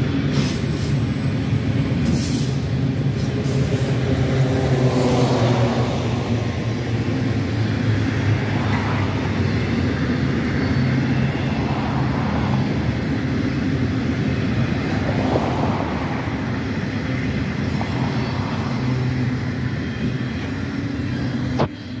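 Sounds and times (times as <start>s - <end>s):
freight train wheels rumbling on track: 0.0s - 22.0s.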